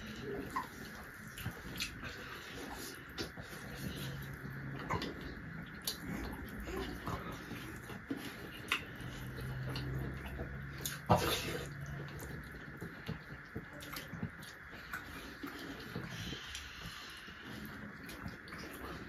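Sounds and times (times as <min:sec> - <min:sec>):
mouth clicks and chewing: 0:00.0 - 0:19.0.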